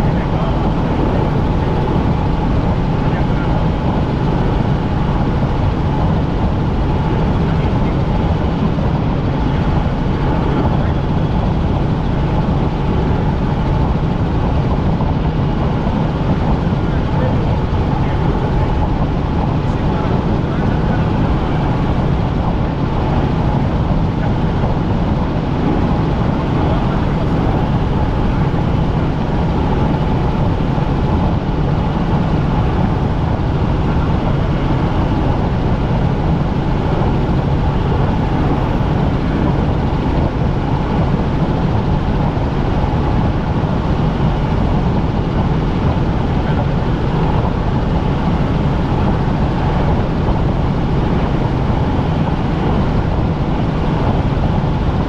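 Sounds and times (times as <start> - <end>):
helicopter drone from inside cabin: 0.0 - 55.0.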